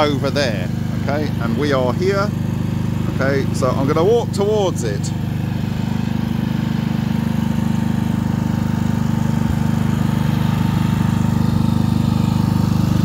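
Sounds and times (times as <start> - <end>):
generator engine droning: 0.0 - 13.0.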